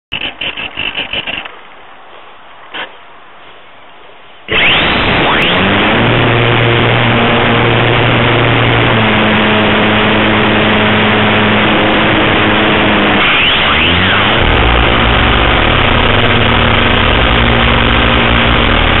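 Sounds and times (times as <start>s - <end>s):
model airplane motor and propeller: 0.1s - 1.6s, 4.5s - 19.0s.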